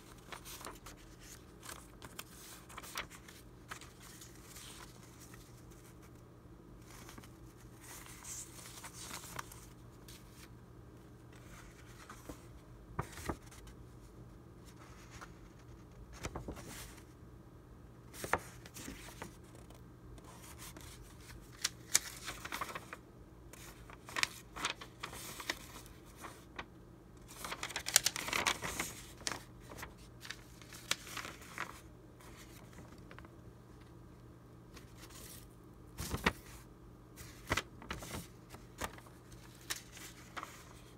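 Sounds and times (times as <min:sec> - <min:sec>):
paper rustling: 0:00.0 - 0:06.2, 0:06.8 - 0:10.5, 0:11.3 - 0:13.8, 0:14.7 - 0:17.1, 0:18.1 - 0:34.0, 0:34.7 - 0:40.9.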